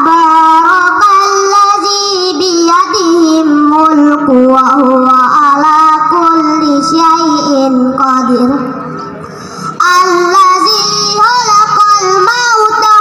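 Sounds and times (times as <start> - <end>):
boy singing into a microphone: 0.0 - 9.0, 9.6 - 13.0.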